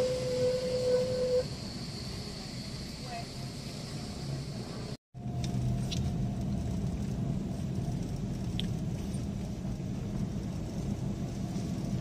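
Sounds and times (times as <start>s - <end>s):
car rolling with low rumble: 0.0s - 12.0s.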